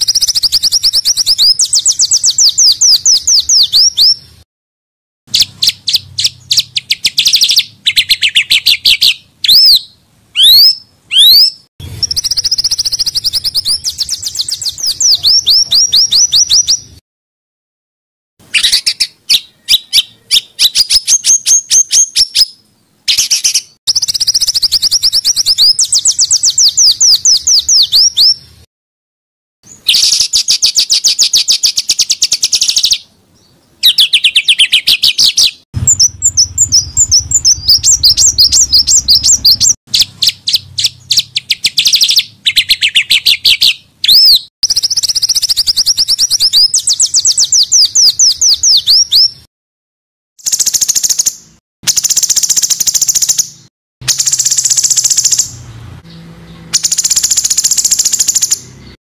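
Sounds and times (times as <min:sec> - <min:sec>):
songbirds trilling: 0:00.0 - 0:04.4, 0:05.3 - 0:17.0, 0:18.4 - 0:28.6, 0:29.7 - 0:49.5, 0:50.4 - 0:59.0.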